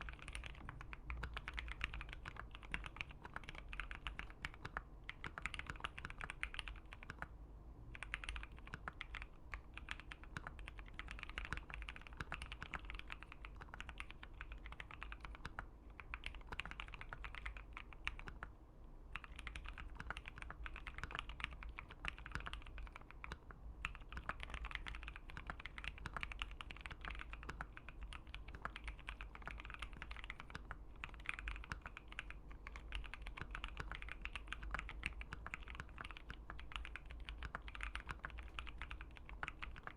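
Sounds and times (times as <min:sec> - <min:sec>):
mechanical keyboard typing: 0:00.0 - 0:07.3, 0:07.9 - 0:18.5, 0:19.1 - 0:39.9.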